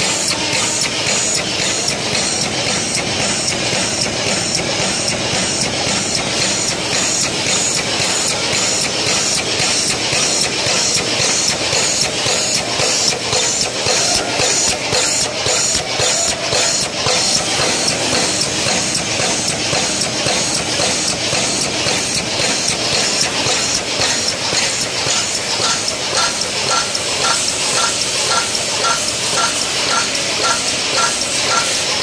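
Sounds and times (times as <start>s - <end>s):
machine clattering and hissing: 0.0s - 32.0s.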